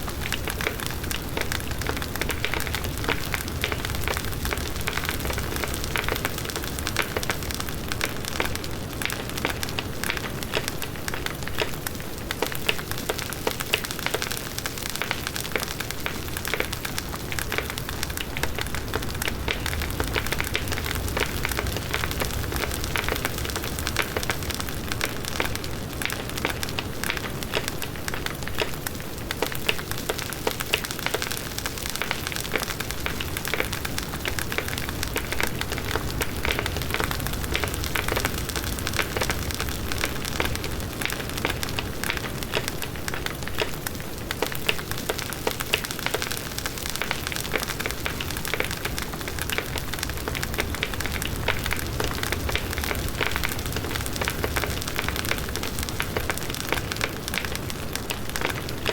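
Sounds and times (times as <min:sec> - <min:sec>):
burning wood crackling and popping: 0:00.0 - 0:58.9.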